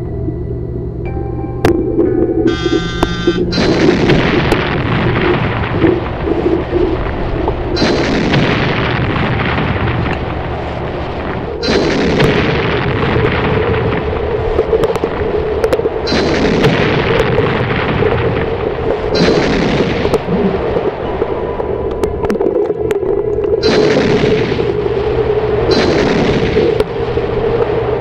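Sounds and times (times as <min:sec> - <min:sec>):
explosion blasts with rumble: 0:01.6 - 0:28.0.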